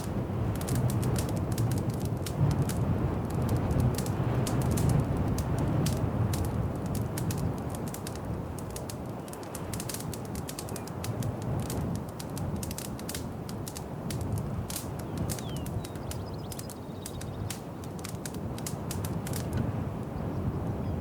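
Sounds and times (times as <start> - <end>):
wood fire crackling: 0.0 - 20.1.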